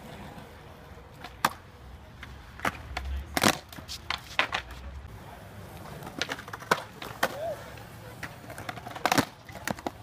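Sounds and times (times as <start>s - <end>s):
skateboard wheels rumbling: 0.0s - 10.0s
skateboard clacking on concrete: 1.1s - 10.0s.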